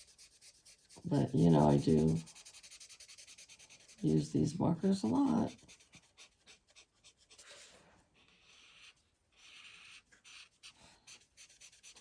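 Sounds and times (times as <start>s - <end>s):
marker rubbing across paper: 0.0s - 12.0s.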